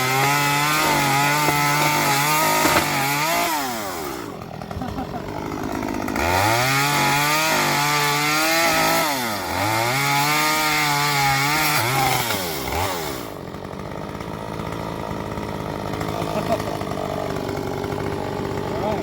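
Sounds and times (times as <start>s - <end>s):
chainsaw running at high revs: 0.0s - 19.0s.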